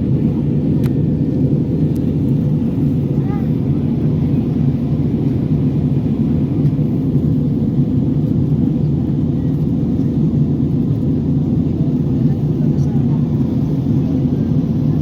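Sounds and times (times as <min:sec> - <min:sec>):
airliner engines droning in cabin: 0:00.0 - 0:15.0.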